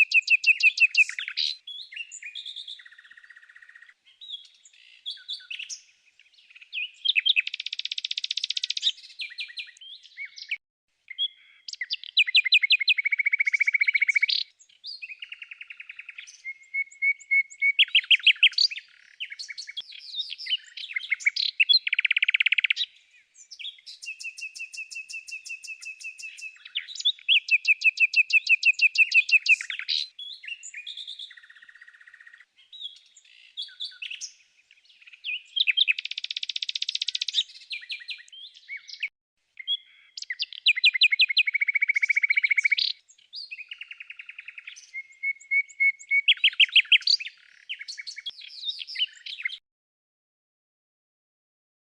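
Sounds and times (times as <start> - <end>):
songbird singing: 0.0 - 49.6.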